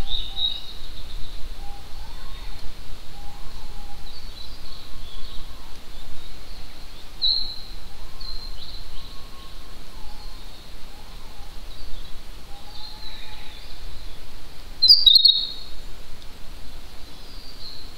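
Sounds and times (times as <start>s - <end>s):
small birds chirping and trilling: 0.0s - 15.8s, 16.7s - 17.9s.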